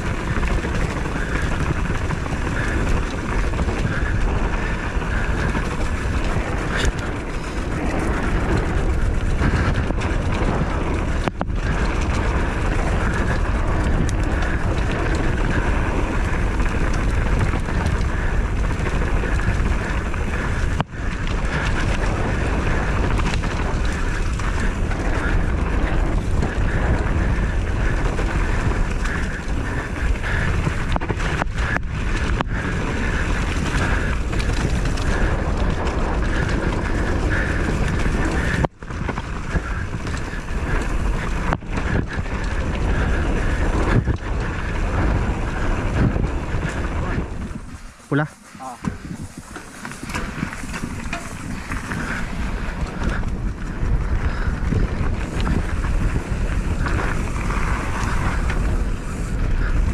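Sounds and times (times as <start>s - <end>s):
vehicle running noise: 0.0s - 59.9s
wind rushing over microphone: 0.0s - 59.9s.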